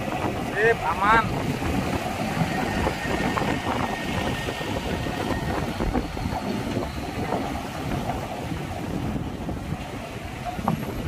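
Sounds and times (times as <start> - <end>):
diesel trucks rumbling: 0.0 - 11.0.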